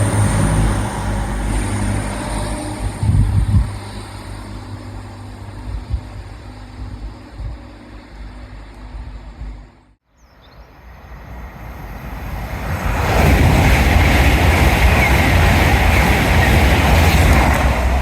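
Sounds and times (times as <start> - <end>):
train roaring past: 0.0 - 18.0.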